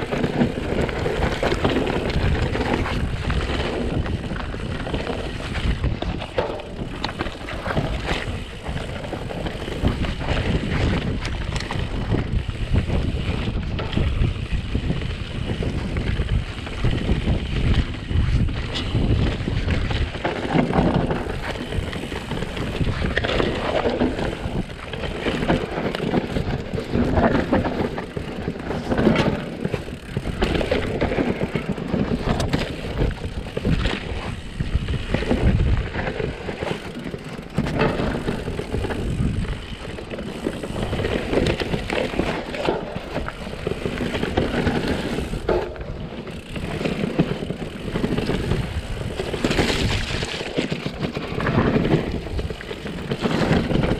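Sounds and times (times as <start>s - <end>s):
bike knocking and rattling: 0.0s - 53.9s
bike tyre noise on dirt: 0.0s - 53.9s.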